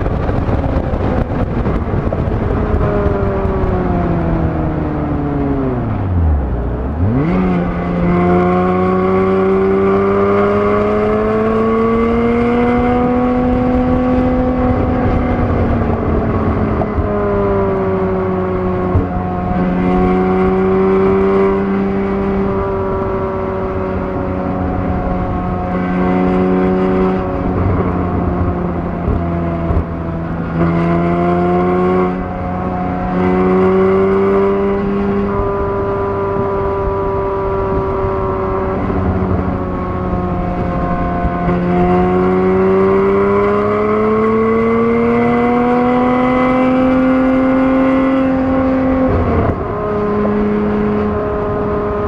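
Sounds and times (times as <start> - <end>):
car engine from inside cabin: 0.1 - 52.0.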